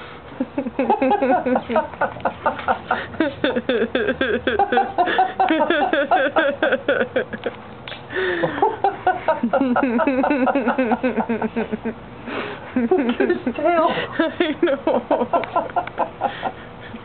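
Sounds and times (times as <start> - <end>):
people laughing hard: 0.4 - 17.0.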